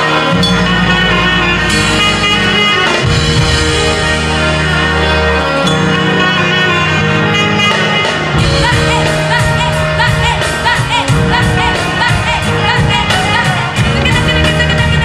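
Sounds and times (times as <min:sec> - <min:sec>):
deep bass: 0:00.0 - 0:15.0
film song fusion music: 0:00.0 - 0:15.0
sung melody: 0:00.0 - 0:15.0.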